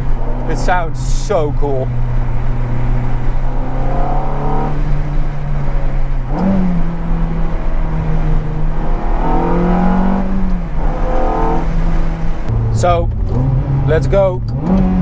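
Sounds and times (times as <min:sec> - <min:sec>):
sports car engine droning: 0:00.0 - 0:15.0.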